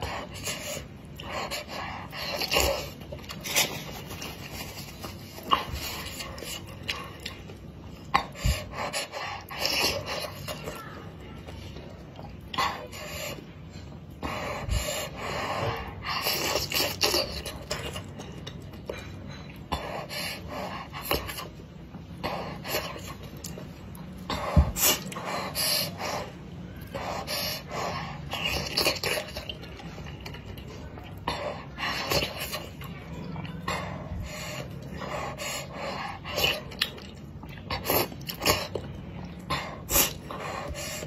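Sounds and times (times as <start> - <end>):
slurping and chewing noodles: 0.0 - 41.0.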